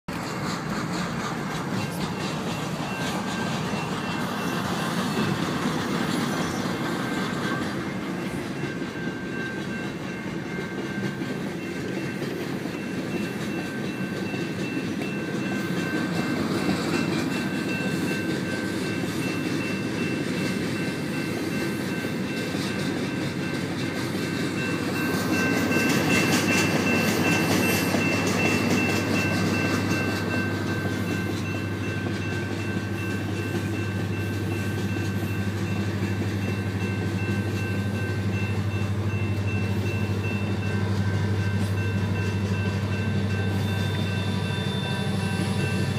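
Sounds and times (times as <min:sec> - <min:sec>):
diesel locomotive engine drone: 0:00.0 - 0:45.9
train wheels clicking over rail joints: 0:00.1 - 0:45.9.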